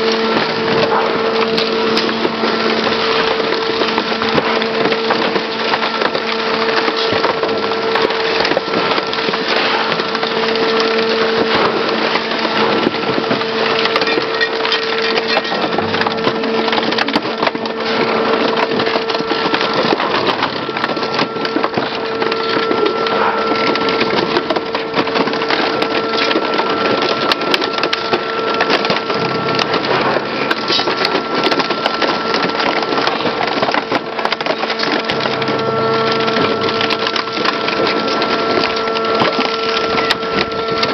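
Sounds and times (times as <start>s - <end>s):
machine drive hum: 0.0s - 40.9s
metal and glass cracking: 0.0s - 40.9s.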